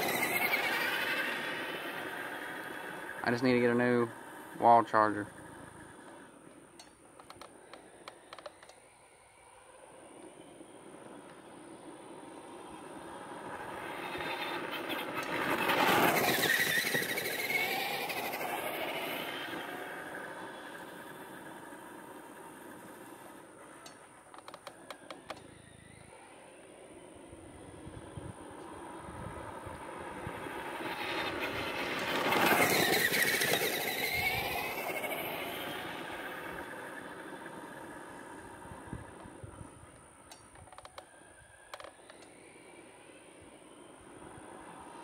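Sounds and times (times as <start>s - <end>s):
rc truck motor whine: 0.0s - 45.0s.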